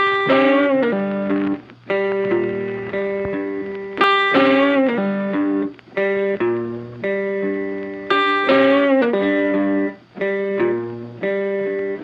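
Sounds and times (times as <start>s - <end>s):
electric blues guitar: 0.0s - 12.0s.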